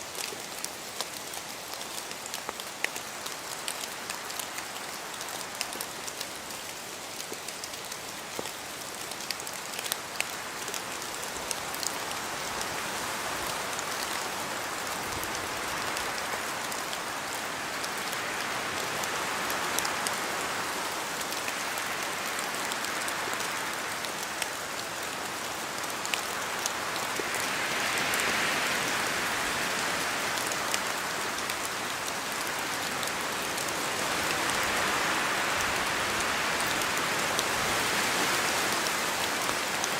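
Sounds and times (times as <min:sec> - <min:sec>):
rain in a forest: 0:00.0 - 0:39.9
wind gusts through trees: 0:00.0 - 0:39.9.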